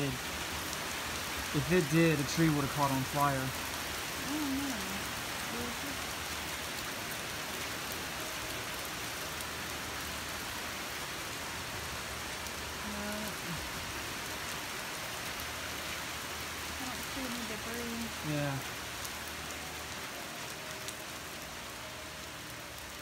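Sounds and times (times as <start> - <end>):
hard rain on ground: 0.0 - 23.0.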